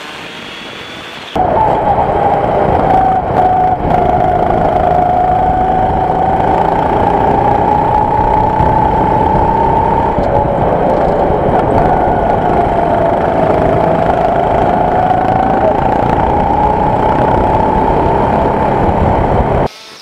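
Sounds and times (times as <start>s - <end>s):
go-kart engine running: 1.4s - 19.7s.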